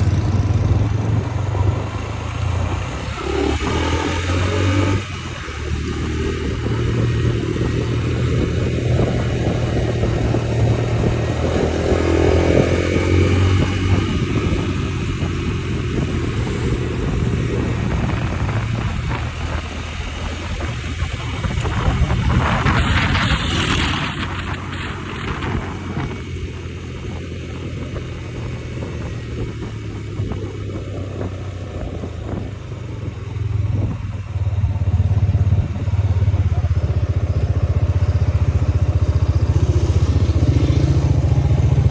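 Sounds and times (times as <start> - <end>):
motorcycle engine running: 0.0 - 41.9
noisy rush: 0.0 - 41.9.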